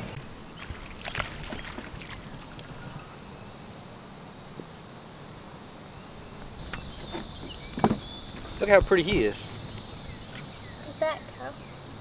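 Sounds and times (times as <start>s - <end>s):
faint insect buzz: 0.0s - 12.0s.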